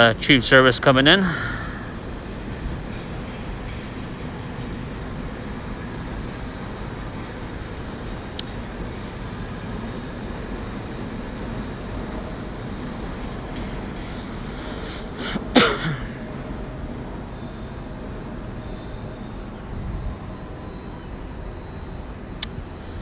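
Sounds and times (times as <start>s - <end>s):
faint hum: 0.0s - 3.0s, 6.6s - 23.0s
train rumble: 0.0s - 23.0s.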